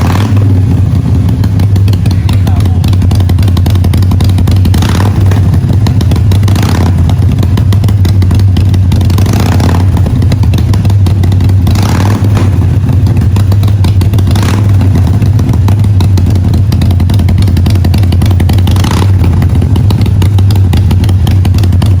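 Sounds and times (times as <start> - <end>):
motorcycle engine idling: 0.0 - 22.0
motorcycle throttle blips: 0.0 - 22.0.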